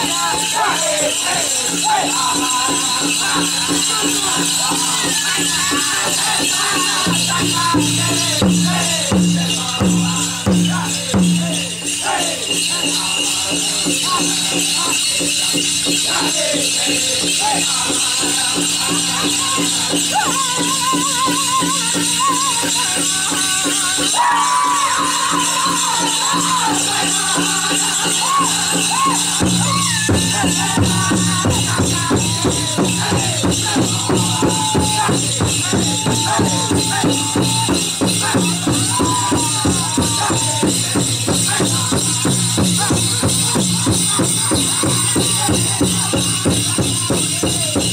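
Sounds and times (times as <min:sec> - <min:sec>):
high wavering singing voices: 0:00.0 - 0:47.8
bells jingling: 0:00.0 - 0:47.9
big drum fast beat: 0:00.0 - 0:47.9.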